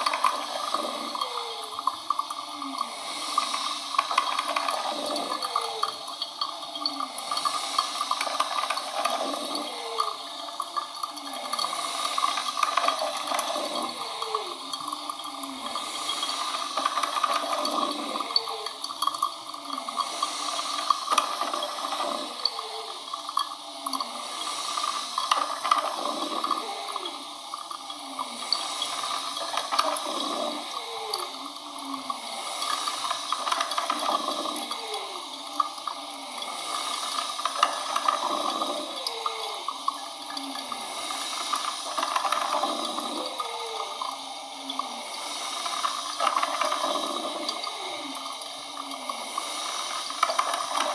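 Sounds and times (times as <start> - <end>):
coffee machine water sounds: 0.0 - 50.9.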